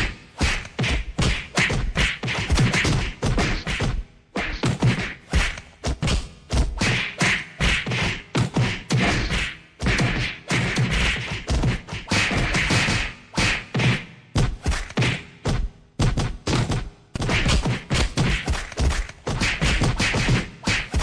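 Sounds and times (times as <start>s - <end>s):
punch and kick hits: 0.0s - 21.0s.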